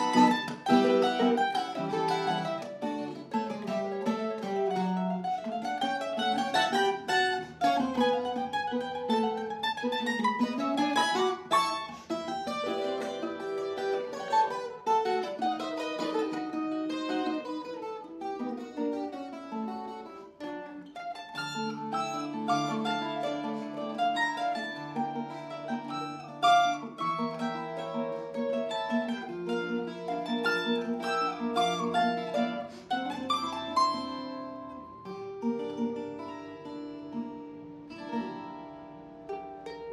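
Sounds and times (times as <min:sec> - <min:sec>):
plucked string melody: 0:00.0 - 0:39.9
strummed string chords: 0:00.0 - 0:39.9.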